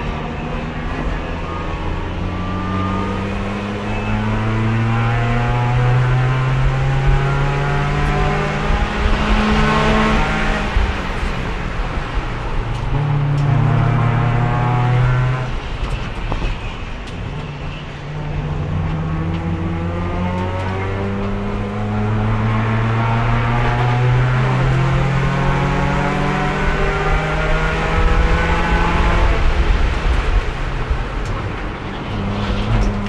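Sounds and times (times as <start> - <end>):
race car engine revving: 0.0 - 15.9, 17.2 - 33.0.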